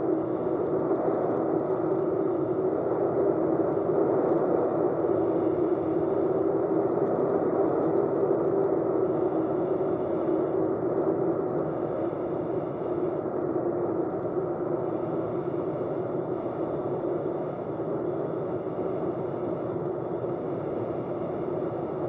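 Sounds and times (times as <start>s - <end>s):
light aircraft engine drone: 0.0s - 22.0s.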